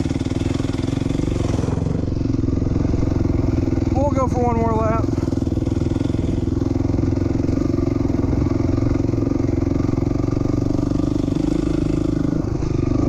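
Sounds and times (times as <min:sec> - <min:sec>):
dirt bike engine running hard: 0:00.0 - 0:13.0.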